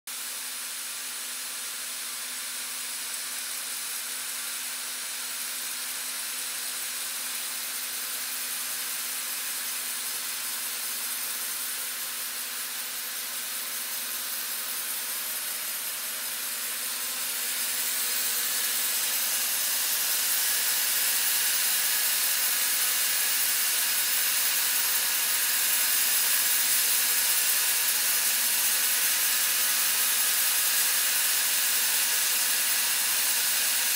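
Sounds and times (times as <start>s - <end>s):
band sawmill running: 0.1s - 33.9s.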